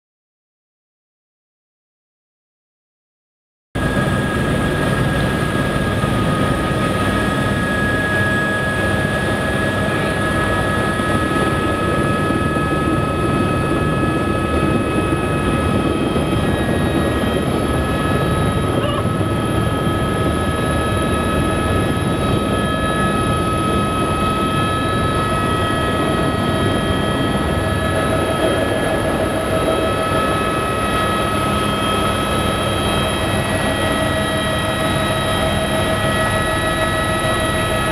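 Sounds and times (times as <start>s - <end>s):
helicopter rotor and engine noise: 3.8s - 37.9s
high turbine whine: 3.8s - 37.9s.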